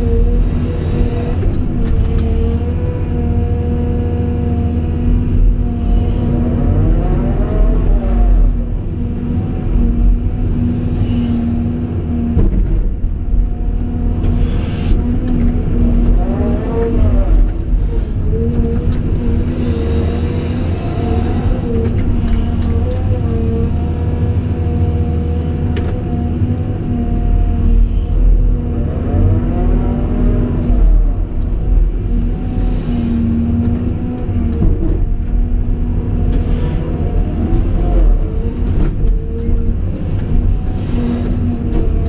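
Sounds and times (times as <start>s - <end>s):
excavator diesel rumble: 0.0s - 42.0s.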